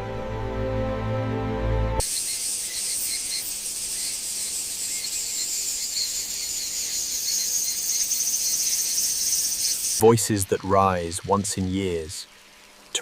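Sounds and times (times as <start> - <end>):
cicadas buzzing: 2.0 - 13.0.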